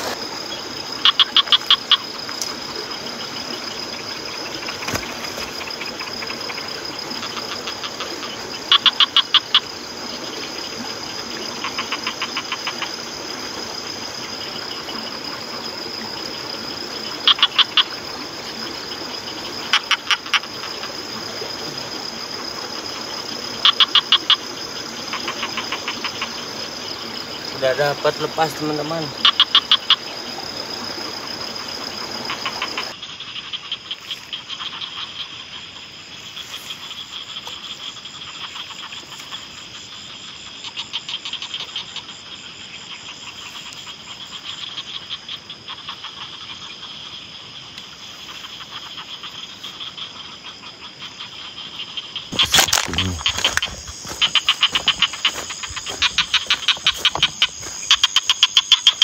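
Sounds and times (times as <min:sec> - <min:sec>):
fast pulsed frog calls: 0:00.0 - 0:59.0
high-pitched insect trill: 0:00.0 - 0:59.0.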